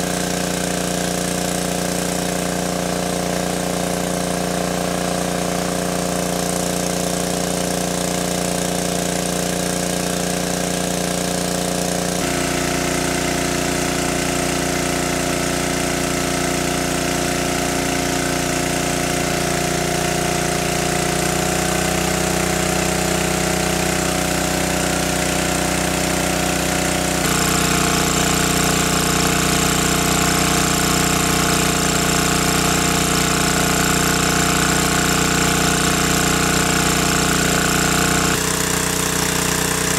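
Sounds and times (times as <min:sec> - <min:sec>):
small petrol engine running: 0:00.0 - 0:39.9
water gushing from hose: 0:00.0 - 0:39.9.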